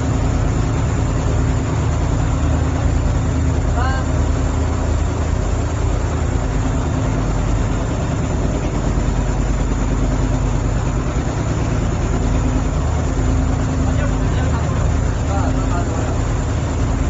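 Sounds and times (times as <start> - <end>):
boat engine humming: 0.0 - 17.0
rushing water: 0.0 - 17.0
wind: 0.0 - 17.0.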